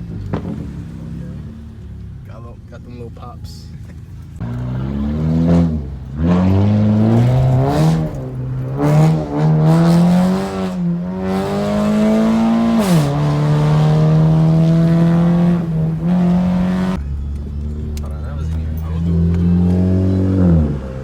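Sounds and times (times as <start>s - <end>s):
car engine accelerating: 3.9s - 21.0s.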